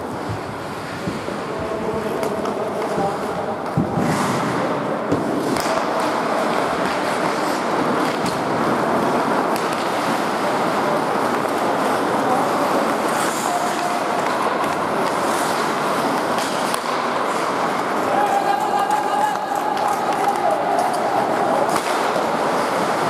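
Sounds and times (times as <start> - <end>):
hockey sticks and puck clacking: 0.0 - 23.0
skates scraping on ice: 0.0 - 23.0.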